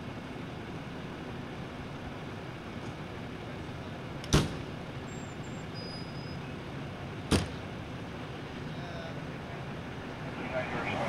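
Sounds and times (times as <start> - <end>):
ambulance engine idling: 0.0 - 11.0.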